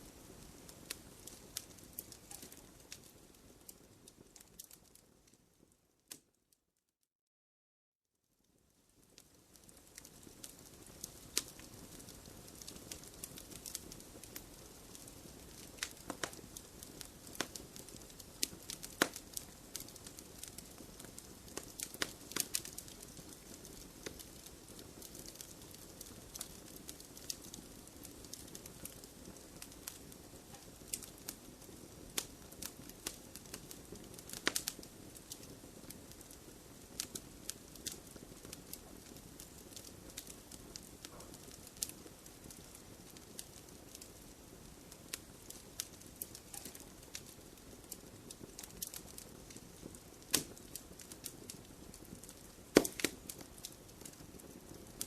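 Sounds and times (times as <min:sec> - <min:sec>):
soft steady hiss: 0:00.0 - 0:06.4, 0:08.2 - 0:55.0
wood fire crackling and popping: 0:00.0 - 0:06.4, 0:08.5 - 0:55.0.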